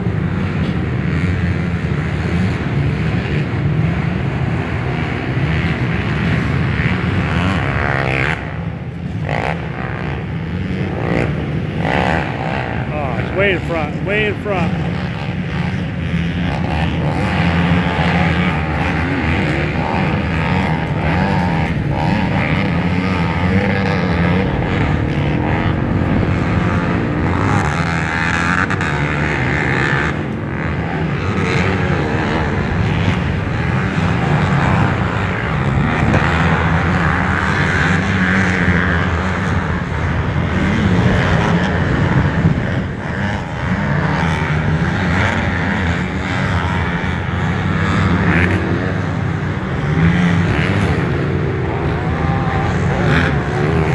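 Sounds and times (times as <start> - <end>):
motocross bike engines racing: 0.0 - 53.9.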